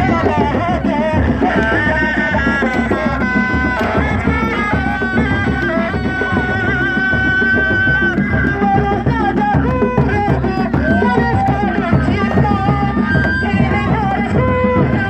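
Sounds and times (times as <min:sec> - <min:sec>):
drums playing dense rhythm: 0:00.0 - 0:15.0.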